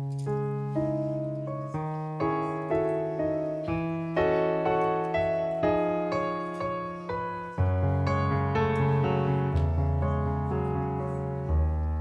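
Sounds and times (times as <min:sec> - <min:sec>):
piano playing slow hymn: 0:00.0 - 0:12.0.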